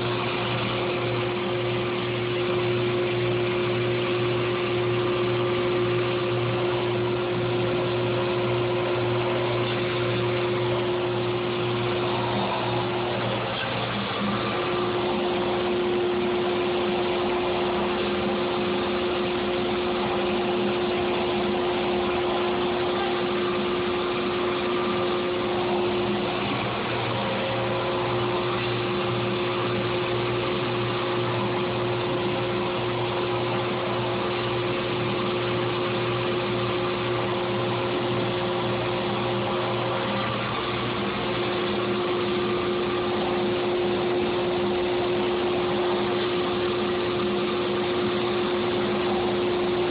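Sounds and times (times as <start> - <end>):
high machine tone: 0.0 - 49.9
router machine hum: 0.0 - 49.9.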